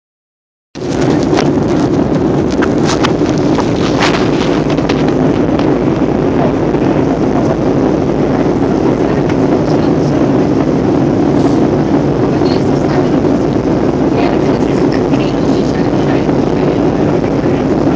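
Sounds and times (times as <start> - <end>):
airliner engines roaring in flight: 0.8 - 17.9.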